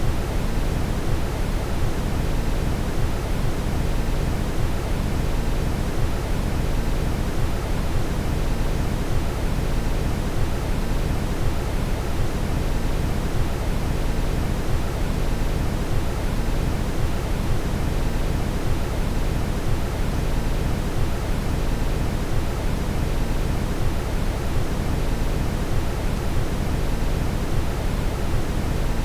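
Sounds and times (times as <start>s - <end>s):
brown noise hiss: 0.0s - 29.0s.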